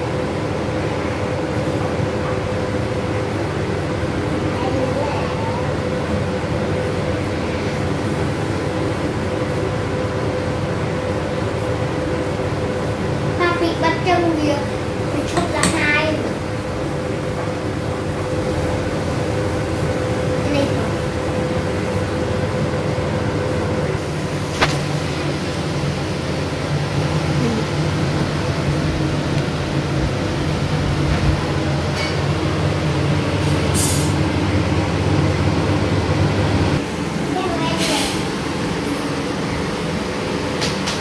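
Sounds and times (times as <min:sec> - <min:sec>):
electric fan motor whirring: 0:00.0 - 0:41.0.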